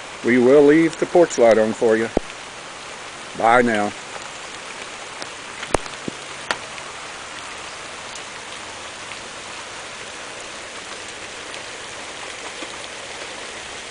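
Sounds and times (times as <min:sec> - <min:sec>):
rain falling on grass and pavement: 0:00.0 - 0:13.9.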